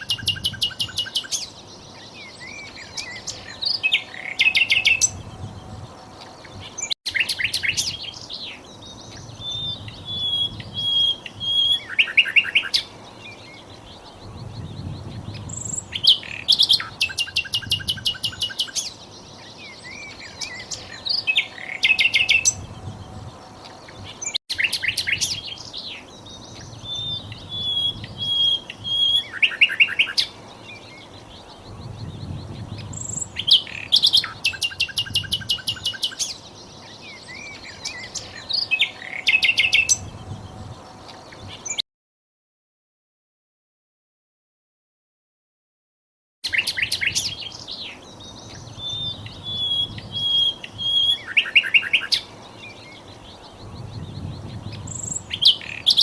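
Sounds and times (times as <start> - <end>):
flycatcher trilling song: 0.0 - 41.8, 46.4 - 56.0.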